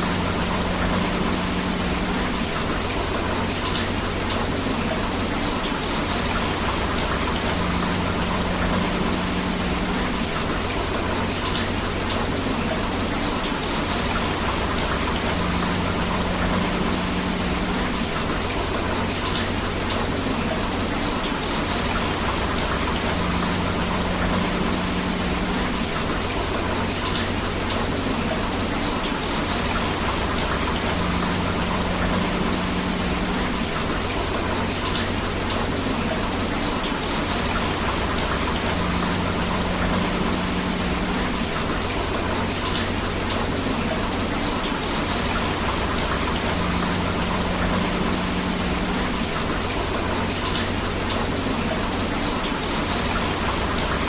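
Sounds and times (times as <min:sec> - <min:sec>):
flowing river water: 0:00.0 - 0:54.0
steady rain: 0:00.0 - 0:54.0.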